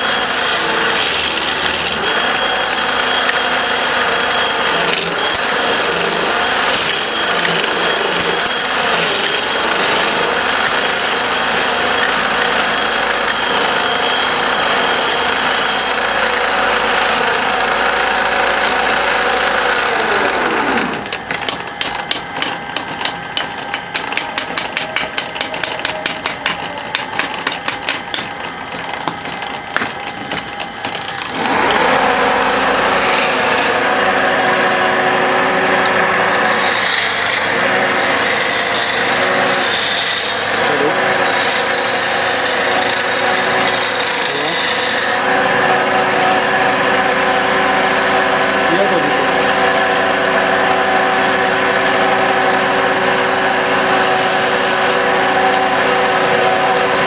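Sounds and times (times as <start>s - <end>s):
tool cutting spinning wood: 0.0s - 57.0s
wood lathe running: 0.0s - 57.0s.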